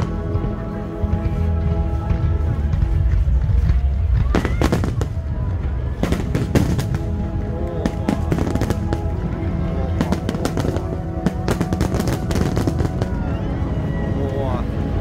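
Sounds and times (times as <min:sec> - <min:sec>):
fireworks bangs and crackles: 0:00.0 - 0:14.5
music playing: 0:00.0 - 0:15.0.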